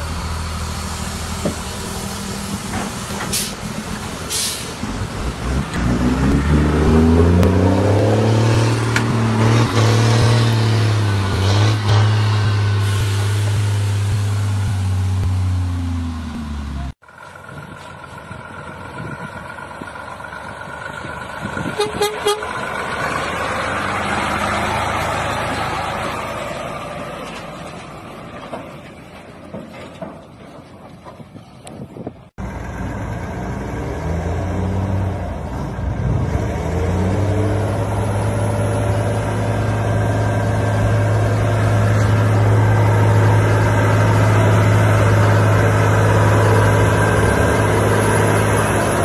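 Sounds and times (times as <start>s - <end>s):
diesel truck engine revving: 0.0s - 17.0s, 18.2s - 28.3s, 32.4s - 49.0s
truck passing by: 0.0s - 49.0s.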